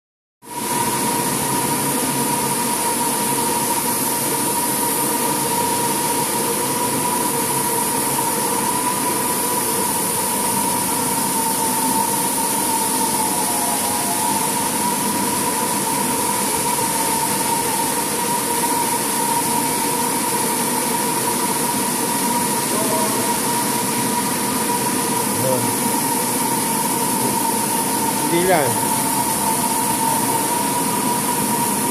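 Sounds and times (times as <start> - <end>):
vacuum cleaner running: 0.5 - 31.9.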